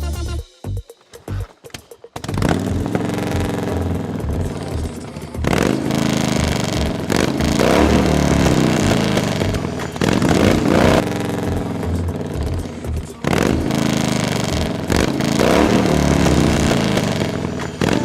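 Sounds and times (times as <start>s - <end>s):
motorcycle engine revving: 2.1s - 18.0s.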